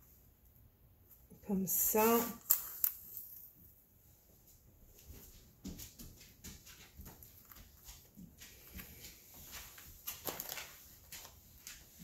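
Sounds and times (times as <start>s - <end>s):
hands rustling tape: 0.4s - 12.0s.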